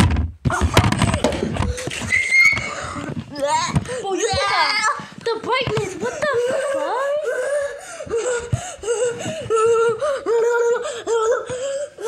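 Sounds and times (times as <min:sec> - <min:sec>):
children laughing: 0:00.5 - 0:12.0.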